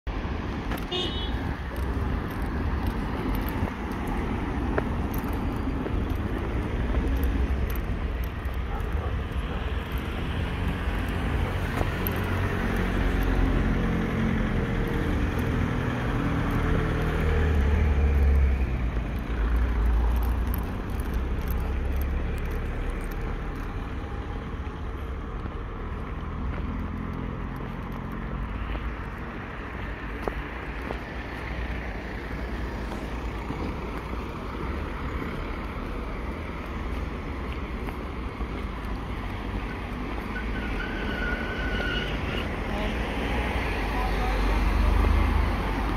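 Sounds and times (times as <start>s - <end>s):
cars passing on road: 0.1s - 45.9s.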